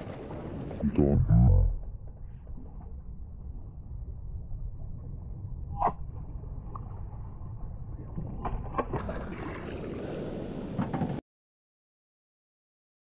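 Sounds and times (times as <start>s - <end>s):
rough low wind rumble: 0.0s - 11.2s.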